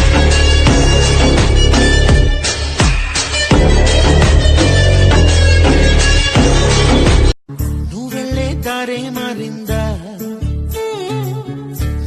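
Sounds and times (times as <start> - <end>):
instrumental music with heavy bass: 0.0 - 12.0.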